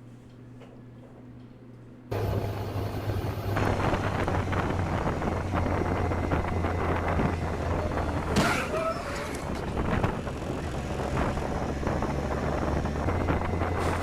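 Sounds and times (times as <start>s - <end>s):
low engine drone: 2.1s - 14.0s
road and wind noise: 2.1s - 14.0s.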